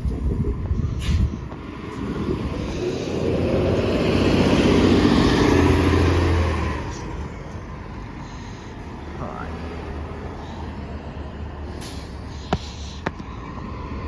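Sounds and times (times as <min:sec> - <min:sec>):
bus engine accelerating: 0:00.0 - 0:14.0.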